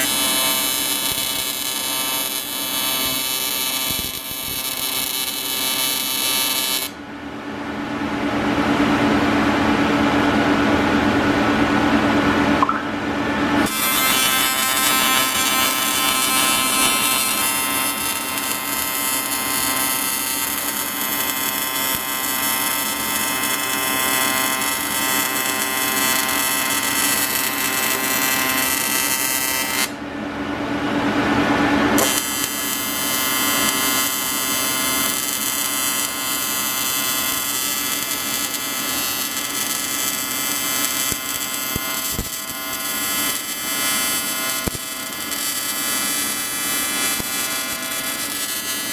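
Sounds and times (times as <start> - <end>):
welding arc buzzing: 0.0 - 7.0, 13.6 - 30.0, 32.0 - 48.9.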